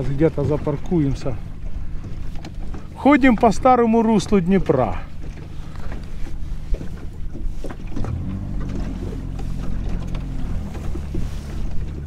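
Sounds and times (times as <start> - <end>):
boat motor running low speed: 0.0 - 12.0.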